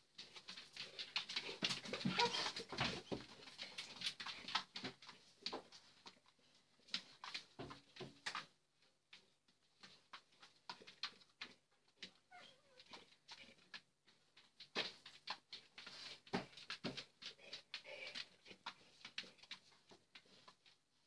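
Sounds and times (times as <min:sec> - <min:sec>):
dog claws clicking on hard floor: 0:00.2 - 0:20.8.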